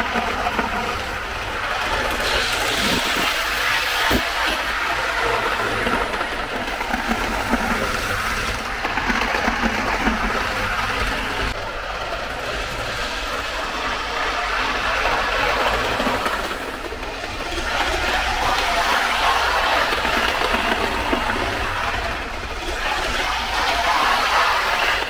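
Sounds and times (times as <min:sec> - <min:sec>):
model train running on rails: 0:00.0 - 0:25.0.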